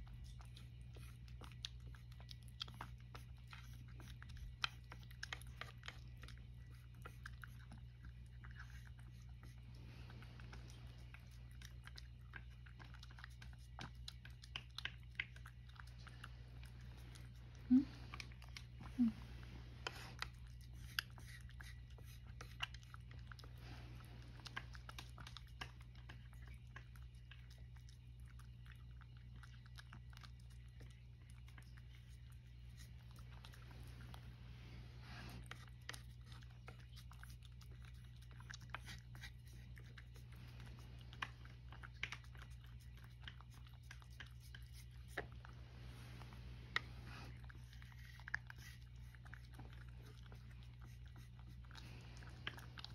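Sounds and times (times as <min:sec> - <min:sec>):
cat chewing and lapping: 0:00.0 - 0:52.9
steady low hum: 0:00.0 - 0:52.9.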